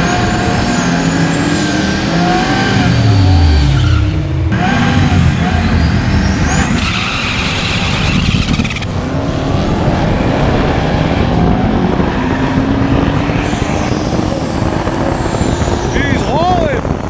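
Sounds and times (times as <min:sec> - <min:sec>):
race car engine accelerating hard: 0:00.0 - 0:17.0.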